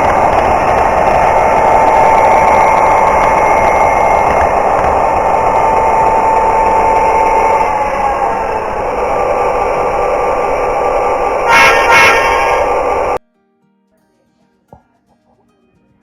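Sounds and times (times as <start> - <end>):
high whine: 0.0 - 13.2
model locomotive engine rumble: 0.0 - 13.2.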